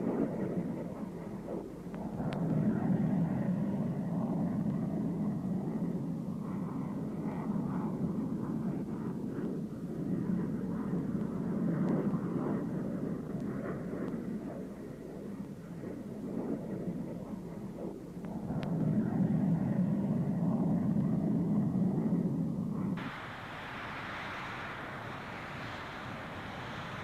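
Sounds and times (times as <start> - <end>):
jet aircraft rumble: 0.0 - 27.0.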